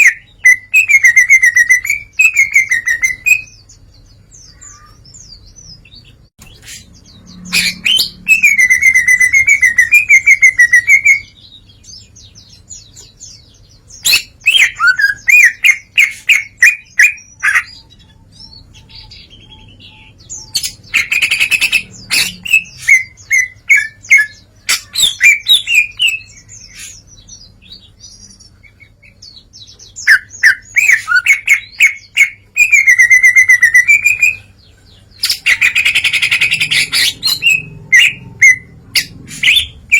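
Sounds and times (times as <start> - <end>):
bird singing trilled phrases: 0.0 - 39.9.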